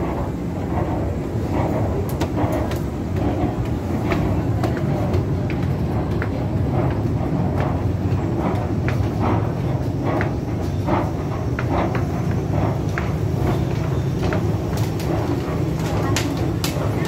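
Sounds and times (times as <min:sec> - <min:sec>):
escalator low rumble: 0:00.0 - 0:17.0
footsteps and clicks on steps: 0:00.0 - 0:17.0.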